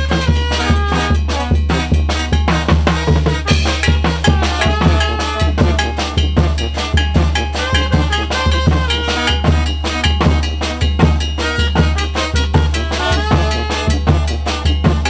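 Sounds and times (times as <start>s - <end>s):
bass line: 0.0s - 15.0s
drum kit beat: 0.0s - 15.0s.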